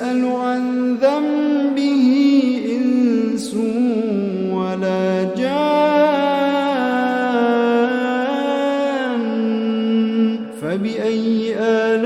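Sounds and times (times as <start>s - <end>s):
person chanting recitation: 0.0s - 12.0s.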